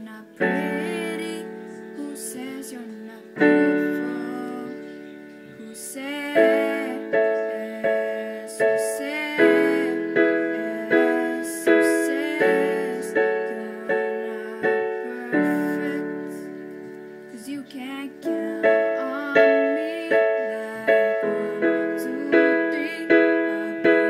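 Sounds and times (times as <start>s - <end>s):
piano playing block chords: 0.0s - 24.0s.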